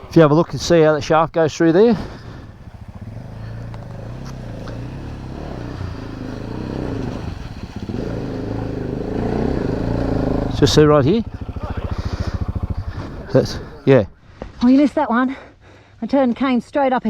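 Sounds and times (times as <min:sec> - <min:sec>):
motorcycle engine at low revs: 0:00.7 - 0:14.6.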